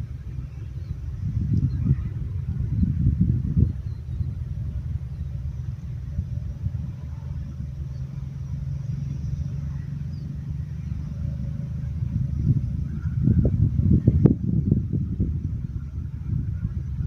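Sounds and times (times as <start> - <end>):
motor vehicle engine rumble: 0.0 - 17.0.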